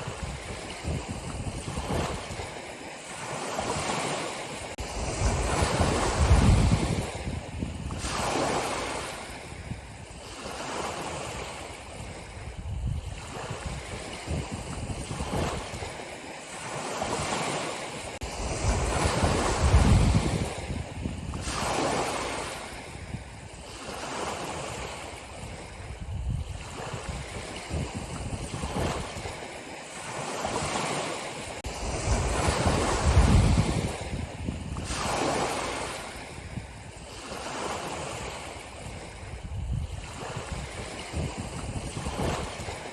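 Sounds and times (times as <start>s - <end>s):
ocean waves breaking on shore: 0.0s - 42.9s
wind noise: 0.0s - 42.9s.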